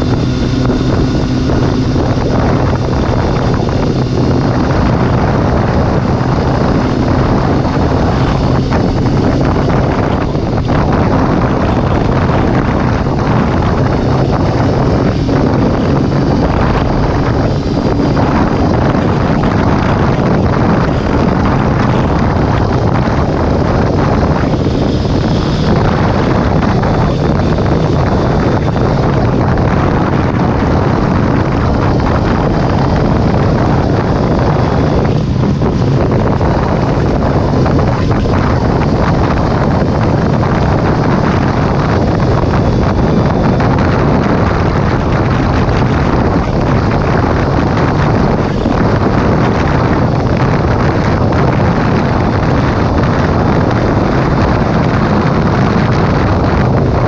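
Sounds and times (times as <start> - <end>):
motorcycle engine: 0.0 - 57.0
wind rushing over microphone: 0.0 - 57.0.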